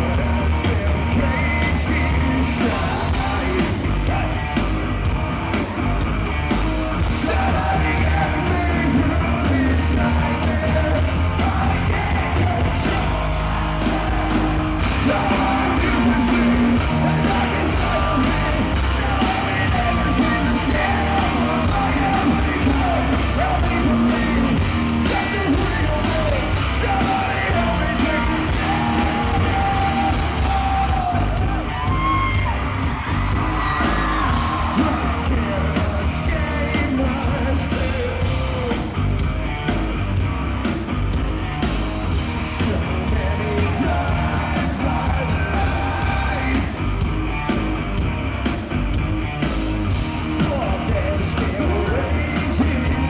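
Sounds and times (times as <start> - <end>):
sung and shouted vocals: 0.0 - 4.6, 7.0 - 39.0, 42.4 - 46.9, 50.4 - 53.0
hard rock band playing live: 0.0 - 53.0.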